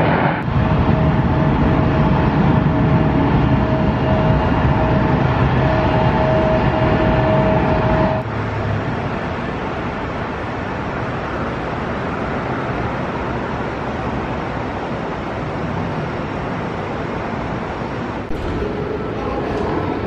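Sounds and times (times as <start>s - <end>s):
ambient hum with low tone: 0.0s - 20.0s
road traffic roar: 0.0s - 20.0s.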